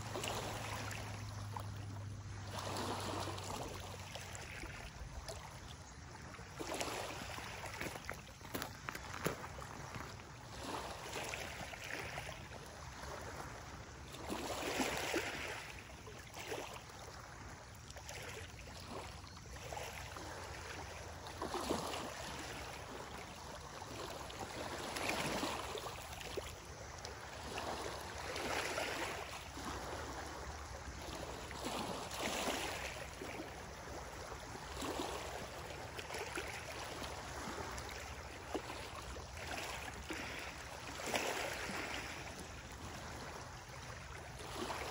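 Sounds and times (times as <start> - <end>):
small waves lapping on rocks: 0.0 - 44.9.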